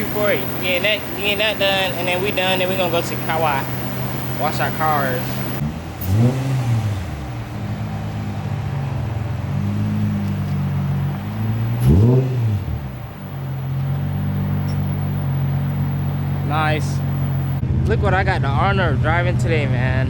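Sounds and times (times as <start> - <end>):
car engine idling and revving: 0.0 - 17.6.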